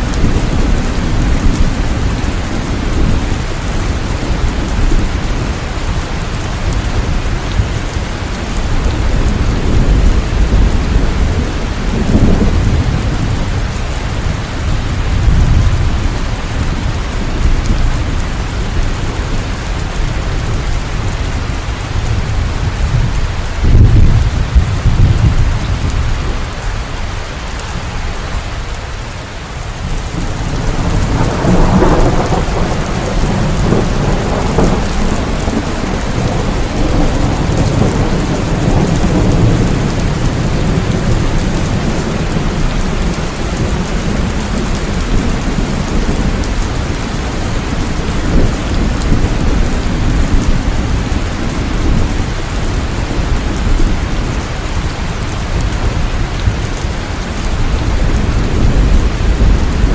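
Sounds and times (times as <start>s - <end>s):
heavy rain falling: 0.0s - 59.9s
thunder rumbling: 0.0s - 59.9s.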